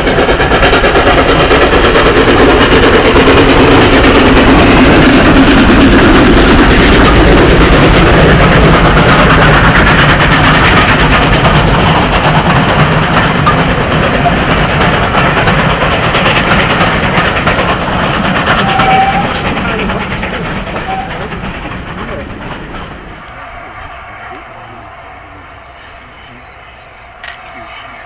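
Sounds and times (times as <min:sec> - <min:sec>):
wheels clicking over track: 0:00.0 - 0:23.4
steam train passing: 0:00.0 - 0:28.0.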